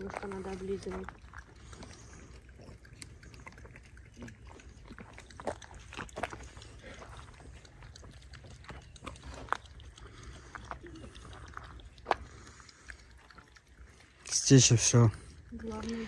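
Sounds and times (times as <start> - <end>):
dog licking water from bottle: 0.0 - 16.0.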